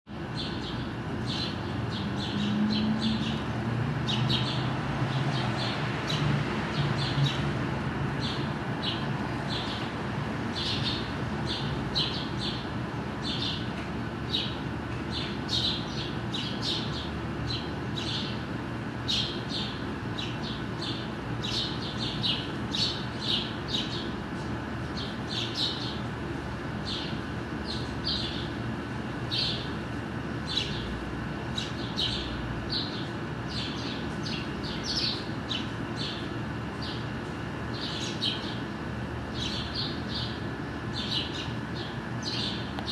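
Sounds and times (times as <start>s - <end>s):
small birds chirping: 0.2s - 42.9s.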